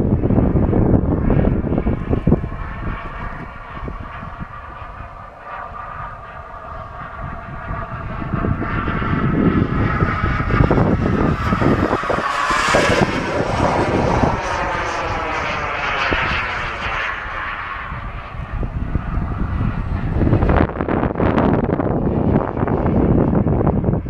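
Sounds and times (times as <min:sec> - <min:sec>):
model jet engine whine: 0:00.0 - 0:24.0.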